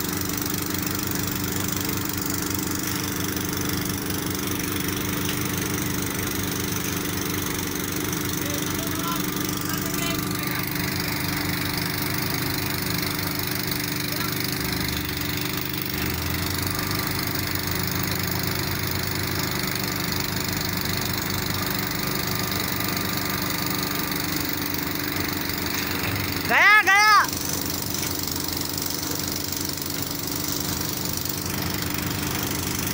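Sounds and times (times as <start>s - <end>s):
engine running steadily: 0.0s - 32.9s.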